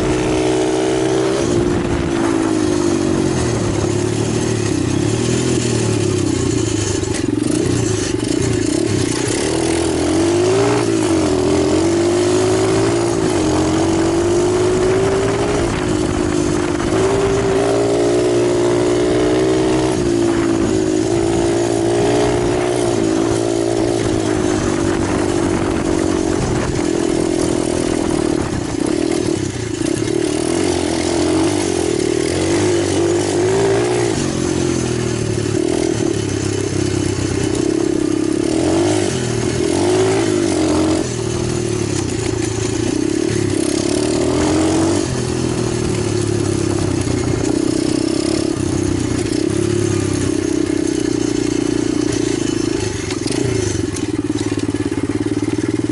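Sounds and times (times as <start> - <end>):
pit bike engine running: 0.0 - 55.9.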